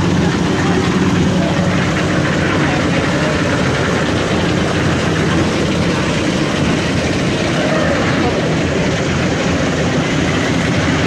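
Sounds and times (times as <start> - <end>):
concrete mixer engines droning: 0.0 - 11.0.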